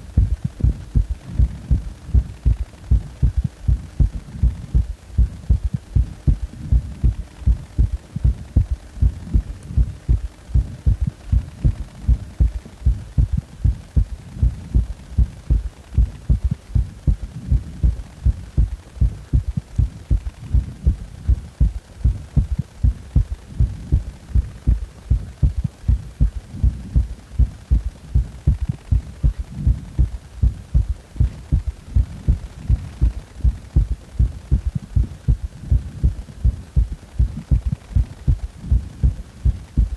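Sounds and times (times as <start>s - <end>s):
heartbeat low thuds: 0.0s - 39.9s.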